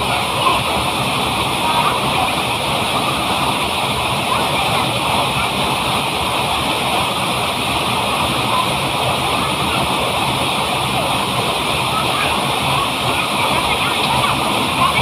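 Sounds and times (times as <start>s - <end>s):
people wading and splashing: 0.0s - 15.0s
waterfall pouring into pool: 0.0s - 15.0s.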